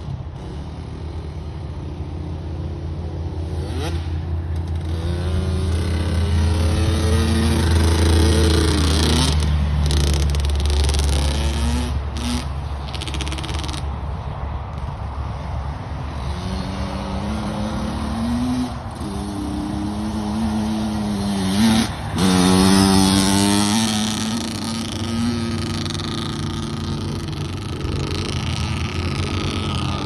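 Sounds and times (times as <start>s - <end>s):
dirt bike engine revving: 0.0s - 13.9s, 14.7s - 30.0s.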